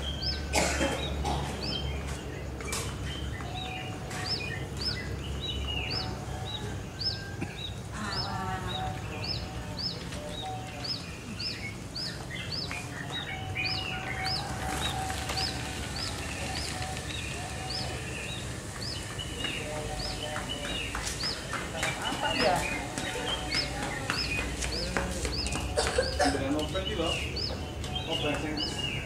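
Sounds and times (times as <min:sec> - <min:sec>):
birds calling lower: 0:00.0 - 0:29.0.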